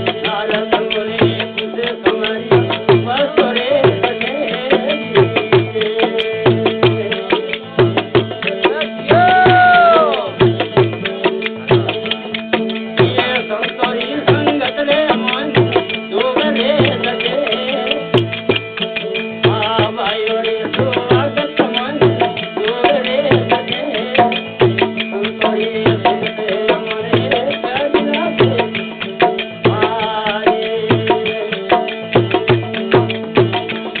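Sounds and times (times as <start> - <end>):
hand drum beat: 0.0 - 34.0.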